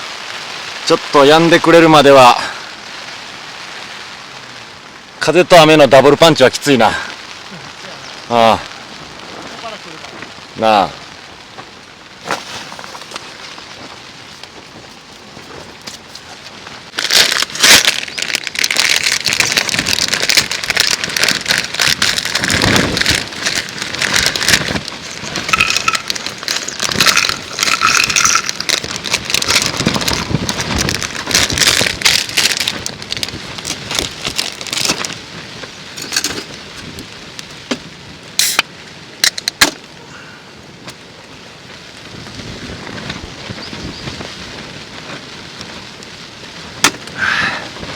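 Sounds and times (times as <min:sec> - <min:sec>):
heavy rain pelting tent fabric: 0:00.0 - 0:47.9.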